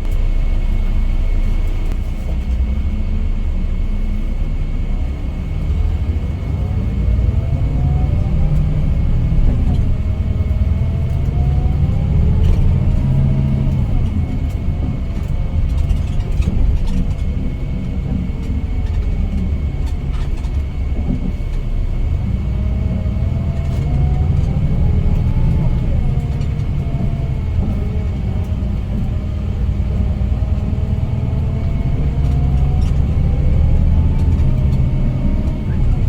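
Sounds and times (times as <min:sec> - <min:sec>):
coach engine and road rumble: 0:00.0 - 0:36.0
whine rising in pitch: 0:00.0 - 0:36.0.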